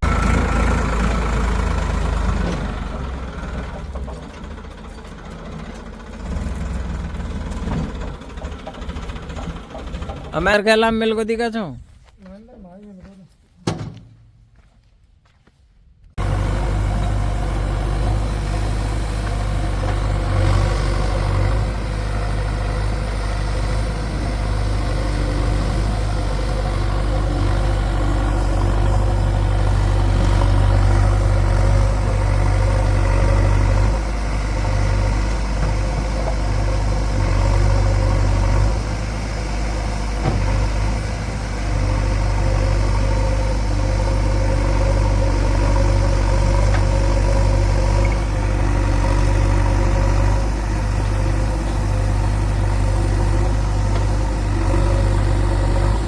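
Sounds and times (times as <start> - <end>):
diesel engine running: 0.0 - 11.8, 16.2 - 56.0.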